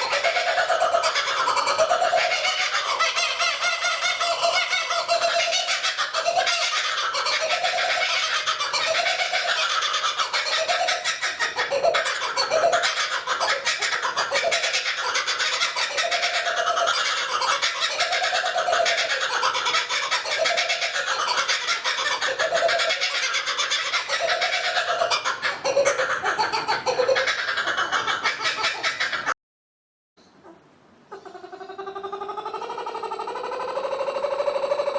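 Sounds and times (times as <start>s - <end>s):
kookaburras cackling: 0.0s - 29.4s, 30.4s - 34.9s.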